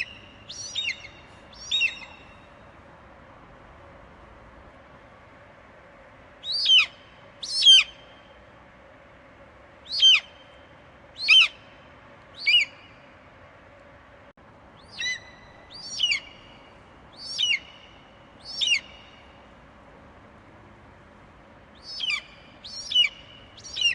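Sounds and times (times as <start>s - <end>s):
faint steady hiss: 0.0s - 23.9s.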